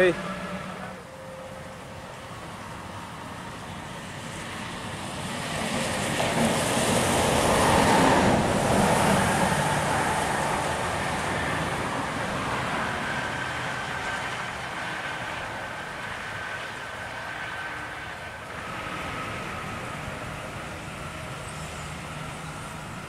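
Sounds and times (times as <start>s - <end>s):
bus passing on wet road: 0.0s - 23.0s.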